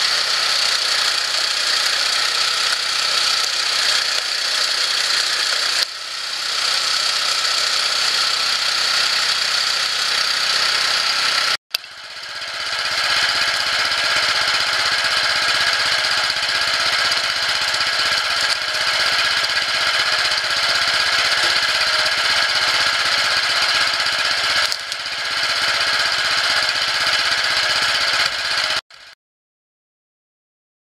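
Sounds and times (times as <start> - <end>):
log splitter engine rattling: 0.0 - 28.8.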